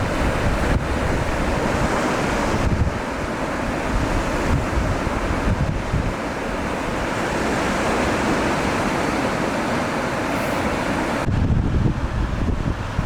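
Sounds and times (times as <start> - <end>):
sea surf washing onto beach: 0.0 - 13.0
wind buffeting microphone: 0.0 - 13.0.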